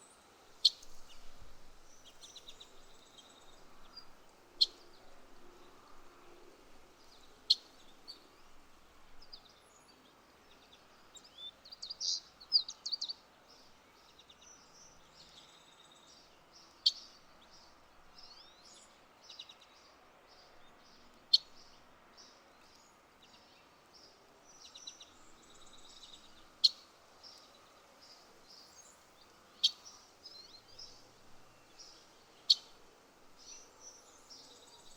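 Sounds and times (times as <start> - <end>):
low background noise: 0.0 - 34.9
songbirds chirping: 0.0 - 34.9.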